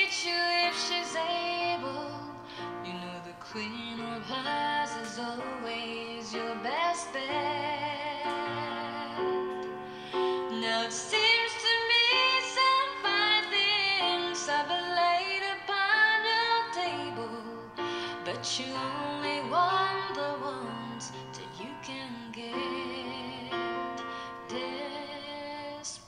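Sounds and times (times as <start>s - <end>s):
woman singing with vibrato on radio: 0.0s - 9.5s, 10.1s - 23.8s.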